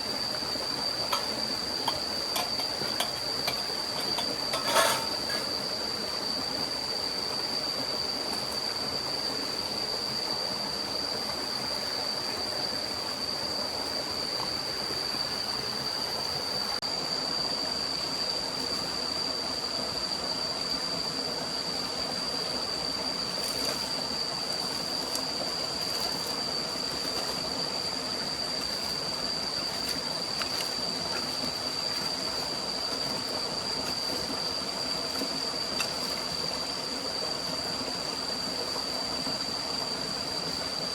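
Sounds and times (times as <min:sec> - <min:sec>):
constant high-pitched tone: 0:00.0 - 0:40.9
stream rushing: 0:00.0 - 0:40.9.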